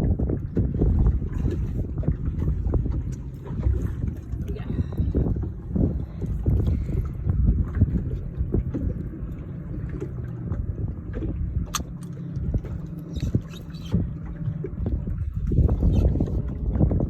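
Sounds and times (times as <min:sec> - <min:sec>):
boat motor humming: 0:00.0 - 0:17.0
water noise: 0:00.0 - 0:17.0
wind noise: 0:00.0 - 0:17.0.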